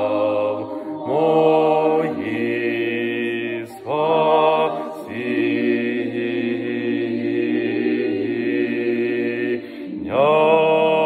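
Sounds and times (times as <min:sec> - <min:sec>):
voices singing a chant in parts: 0:00.0 - 0:11.0.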